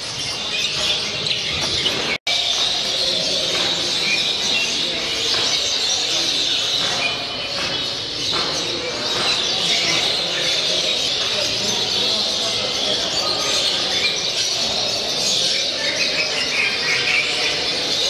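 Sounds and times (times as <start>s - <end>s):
caged birds chirping: 0.0s - 18.0s.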